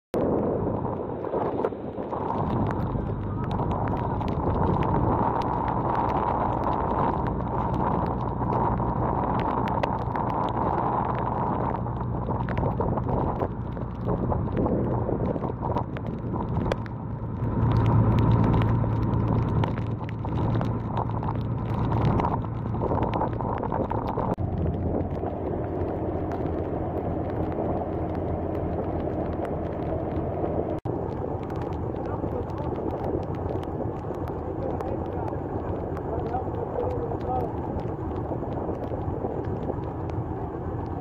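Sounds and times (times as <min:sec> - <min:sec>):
scattered clicks: 0:01.6 - 0:40.2.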